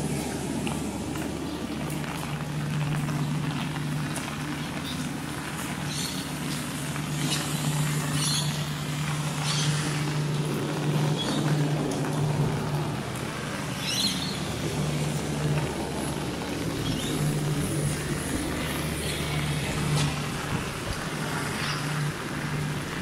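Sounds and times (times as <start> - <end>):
constant wash of noise: 0.0 - 23.0
vehicle engine humming: 0.0 - 23.0.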